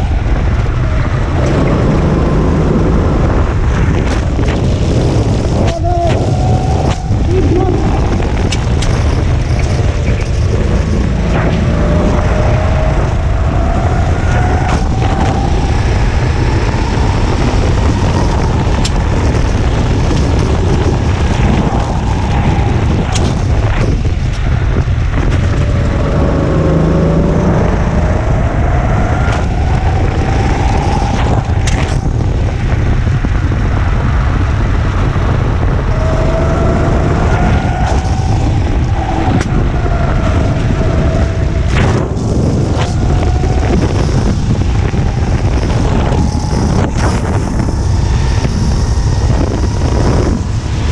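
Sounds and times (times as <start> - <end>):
go-kart engine accelerating: 0.0 - 50.9
heavy low rumble: 0.0 - 50.9.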